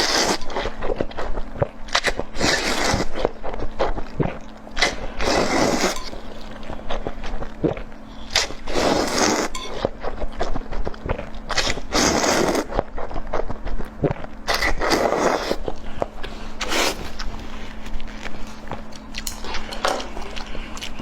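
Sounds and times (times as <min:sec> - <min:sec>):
crunchy chewing of food: 0:00.0 - 0:21.0.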